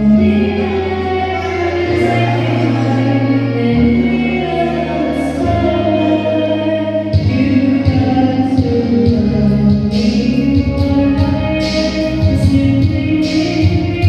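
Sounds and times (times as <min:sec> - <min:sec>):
amplified backing track: 0:00.0 - 0:14.0
woman singing karaoke: 0:00.0 - 0:14.0.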